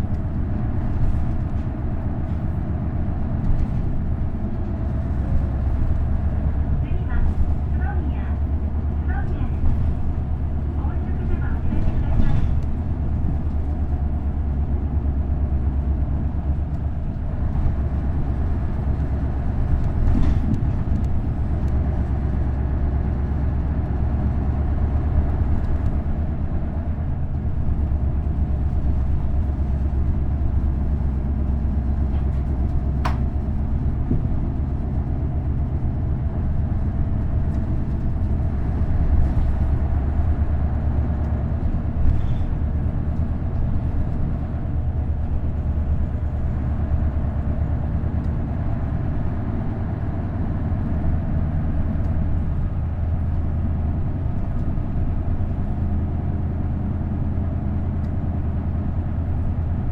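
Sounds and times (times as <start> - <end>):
bus diesel engine running: 0.0 - 59.9
road noise: 0.0 - 59.9.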